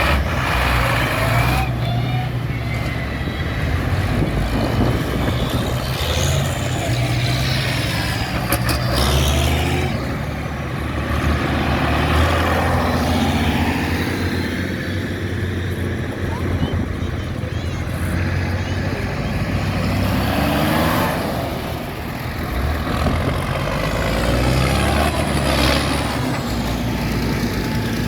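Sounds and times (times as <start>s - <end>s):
heavy vehicle engines passing: 0.0s - 28.0s.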